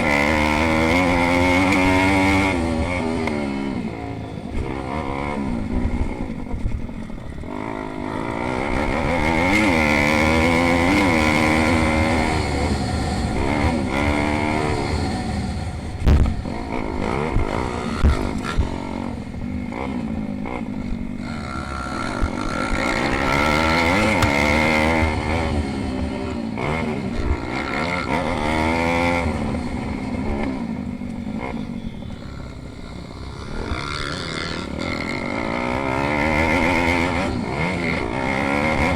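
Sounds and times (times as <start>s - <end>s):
pit bike engines revving: 0.0s - 38.9s.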